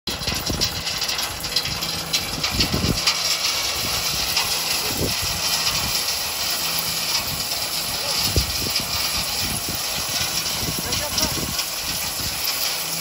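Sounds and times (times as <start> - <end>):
tractor engine running: 0.1 - 13.0.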